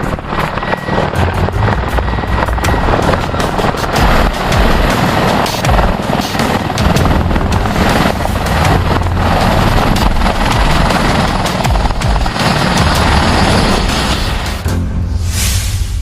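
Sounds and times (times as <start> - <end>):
helicopter rotor and engines: 0.0 - 14.9.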